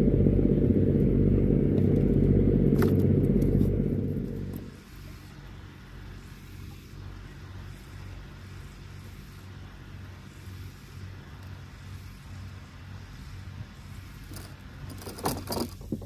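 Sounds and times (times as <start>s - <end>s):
distant motorboat engine humming: 0.0s - 14.9s.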